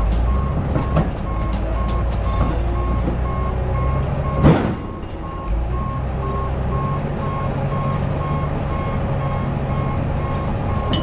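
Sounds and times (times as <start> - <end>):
diesel engine running: 0.0 - 11.0
backup alarm beeping: 0.3 - 11.0.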